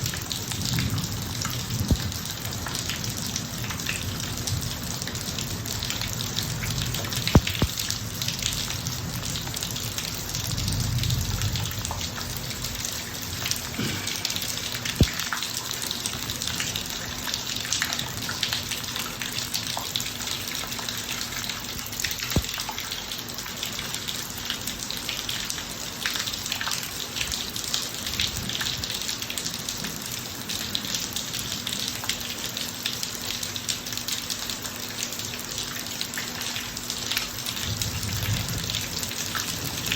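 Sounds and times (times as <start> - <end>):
rain falling on a driveway: 0.0 - 39.9.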